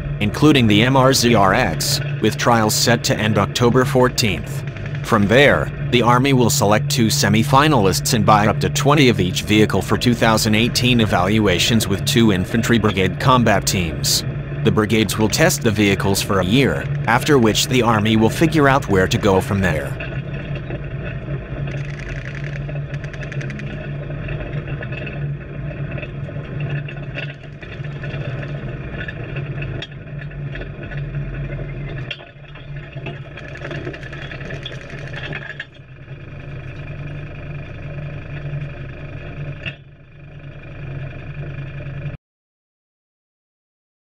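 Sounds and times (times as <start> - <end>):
vehicle engine droning: 0.0 - 42.2.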